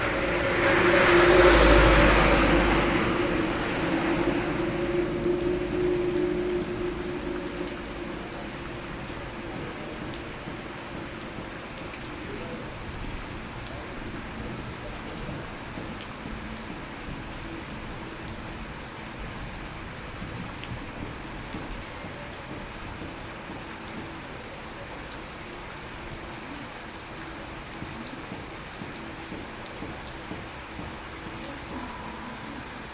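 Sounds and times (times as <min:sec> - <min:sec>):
raindrops ticking: 0:00.0 - 0:32.9
steady rain falling: 0:00.0 - 0:32.9.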